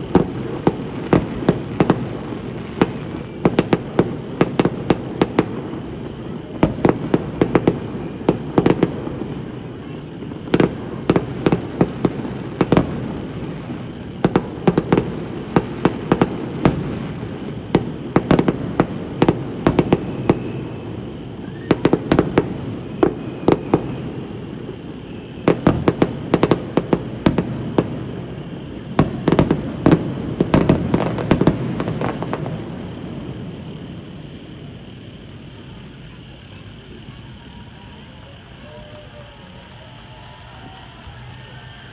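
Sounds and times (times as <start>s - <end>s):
rumble of echoing explosions: 0.0s - 38.6s
fireworks bangs and crackles: 0.0s - 41.9s.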